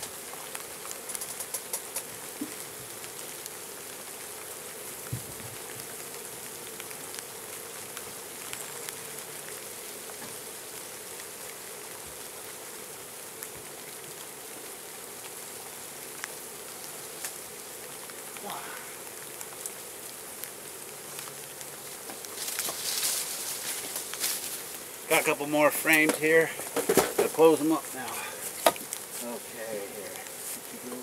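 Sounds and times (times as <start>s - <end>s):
honey bees buzzing: 0.0s - 31.0s
light rain hiss: 0.0s - 31.0s.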